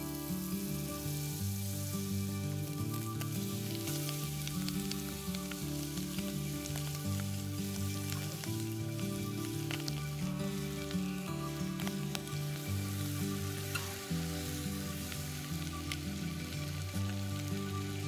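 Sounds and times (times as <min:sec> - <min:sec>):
onion and sausage sizzling: 0:00.0 - 0:18.0
soft background music: 0:00.0 - 0:18.0.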